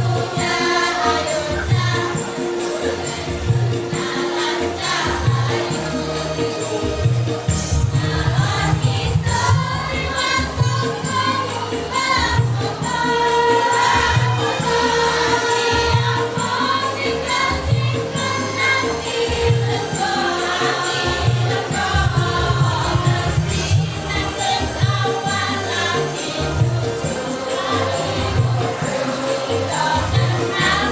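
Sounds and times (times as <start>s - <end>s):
choir singing: 0.0s - 30.9s
jingling percussion: 0.0s - 30.9s.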